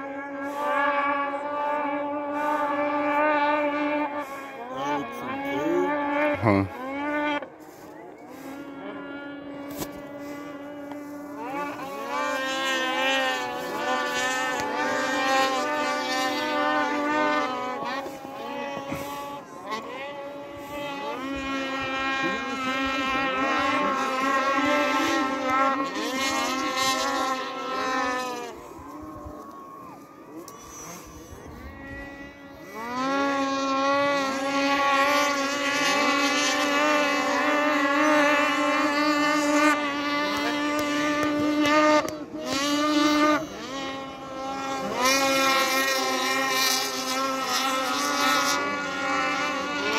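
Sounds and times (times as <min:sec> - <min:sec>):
engines revving: 0:00.0 - 0:49.9.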